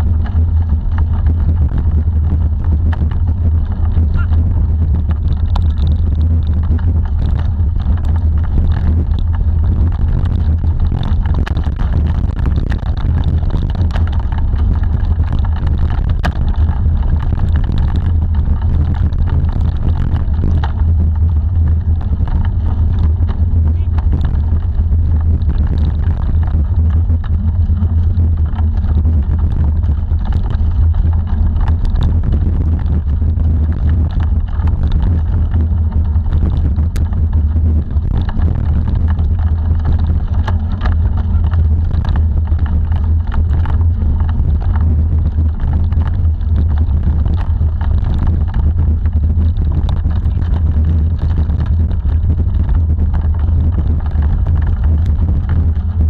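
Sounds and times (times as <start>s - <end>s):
bike clicks and rattles: 0.0s - 56.0s
bike rolling over gravel: 0.0s - 56.0s
wind on microphone: 0.0s - 56.0s.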